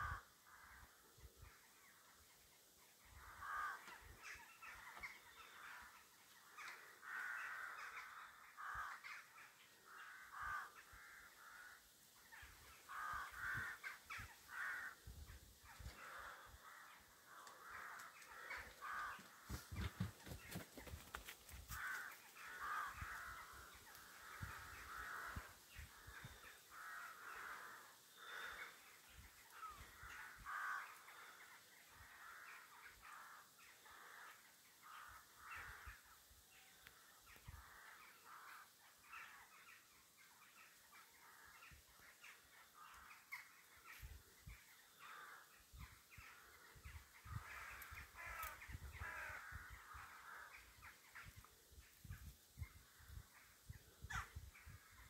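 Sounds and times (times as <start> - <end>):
crows cawing: 0.0 - 1.6, 3.1 - 52.2.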